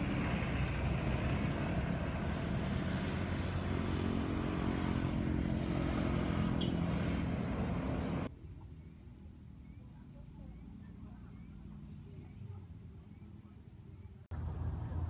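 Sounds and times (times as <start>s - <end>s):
engine low drone: 0.0s - 8.6s, 9.2s - 15.0s.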